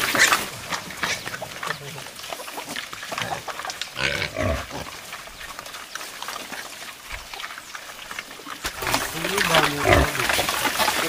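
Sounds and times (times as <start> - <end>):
pigs grunting and snuffling: 0.0 - 11.0.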